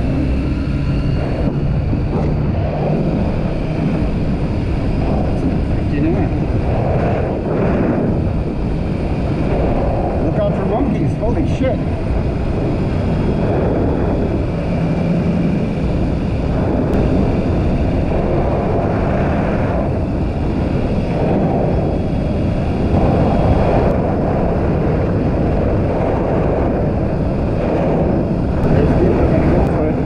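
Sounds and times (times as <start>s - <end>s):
motorcycle engine: 0.0s - 30.0s
wind on microphone: 0.0s - 30.0s.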